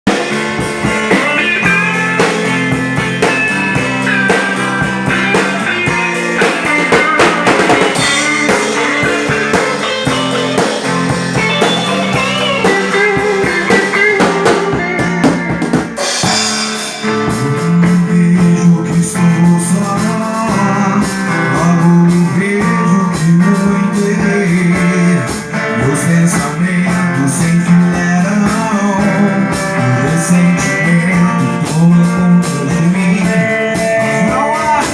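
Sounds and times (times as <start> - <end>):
band music with guitar and drums: 0.0 - 34.9.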